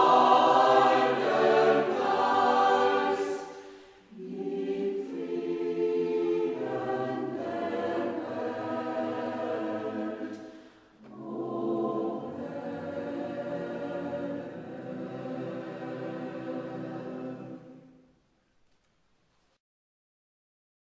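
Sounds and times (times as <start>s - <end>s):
choir singing a sacred song: 0.0s - 18.1s.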